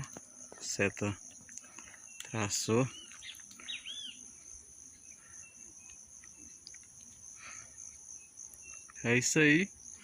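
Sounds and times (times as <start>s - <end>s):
insects trilling: 0.0s - 10.0s
faint bird chirps: 1.6s - 10.0s.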